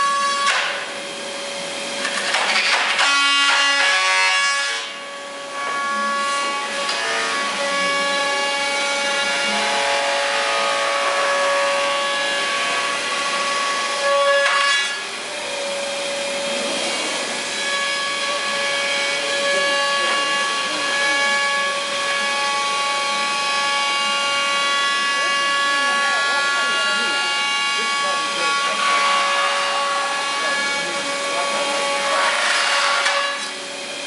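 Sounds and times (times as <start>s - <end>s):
machine spindle whine: 0.0s - 34.0s
rasping cutting noise: 0.0s - 34.0s.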